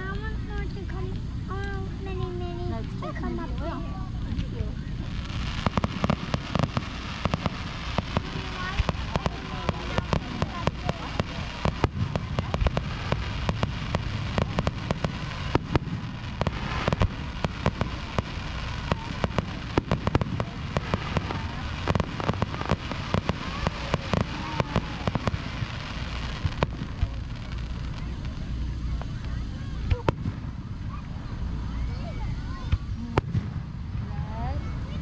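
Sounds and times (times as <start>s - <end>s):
fireworks popping and crackling: 0.0s - 35.0s
low rumble: 0.0s - 35.0s.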